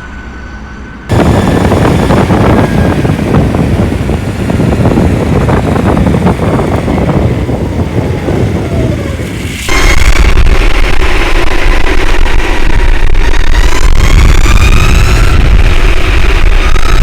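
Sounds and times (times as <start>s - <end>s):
electric skateboard rumble: 0.0s - 17.0s
faint motor whine: 0.0s - 17.0s
wind buffeting microphone: 1.1s - 17.0s.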